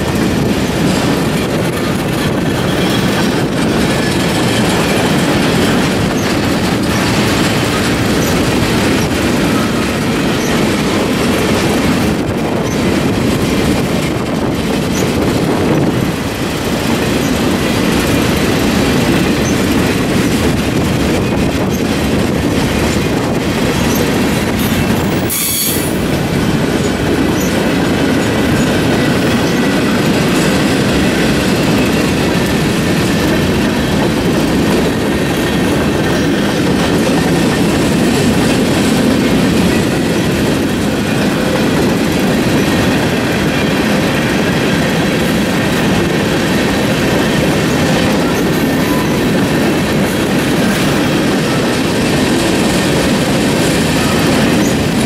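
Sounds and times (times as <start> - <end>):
freight cars rumbling on rails: 0.0 - 55.0.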